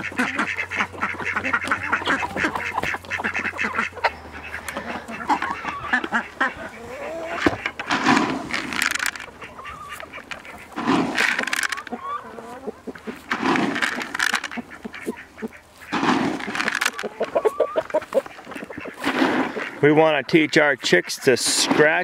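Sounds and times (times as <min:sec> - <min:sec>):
ducks and chickens calling: 0:00.0 - 0:22.0
short quacks: 0:00.0 - 0:22.0.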